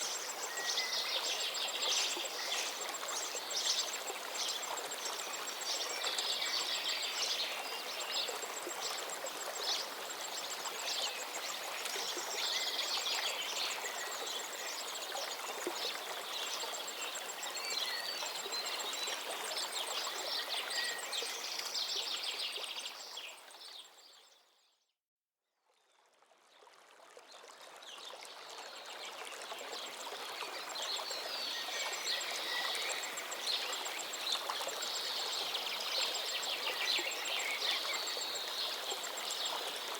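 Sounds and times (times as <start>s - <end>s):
river water running: 0.0s - 24.3s, 26.0s - 39.9s.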